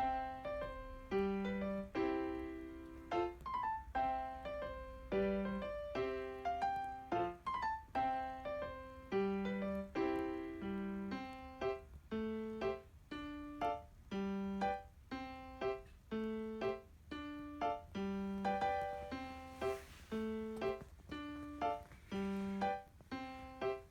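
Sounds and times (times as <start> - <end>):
gentle piano melody: 0.0 - 23.9.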